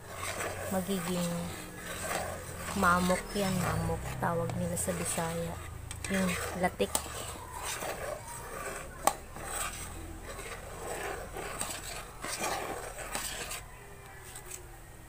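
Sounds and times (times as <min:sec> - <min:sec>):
metal spatula scraping wok: 0:00.0 - 0:14.6.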